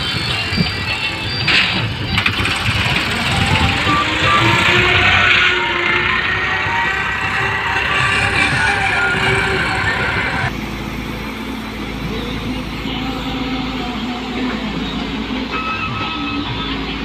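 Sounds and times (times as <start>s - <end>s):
excavator engine running: 0.0s - 17.0s
tractor engine: 0.0s - 17.0s.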